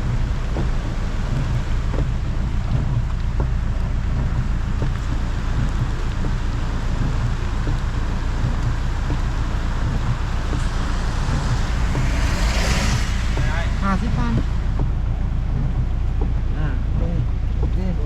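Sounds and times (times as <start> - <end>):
low vehicle rumble: 0.0 - 18.0
rain hiss: 0.0 - 18.0.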